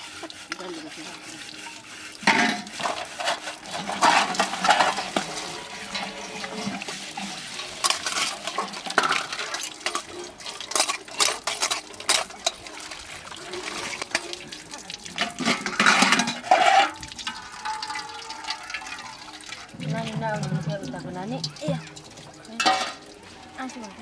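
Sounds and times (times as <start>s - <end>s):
pot being scrubbed: 0.0s - 24.0s
water running from a tap: 0.0s - 24.0s
metal dishes clattering: 2.2s - 23.2s.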